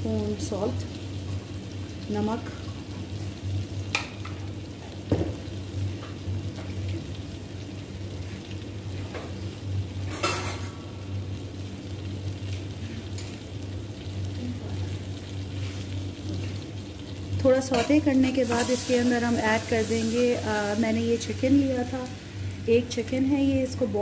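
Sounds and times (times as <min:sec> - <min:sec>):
butter sizzling in saucepan: 0:00.0 - 0:24.0.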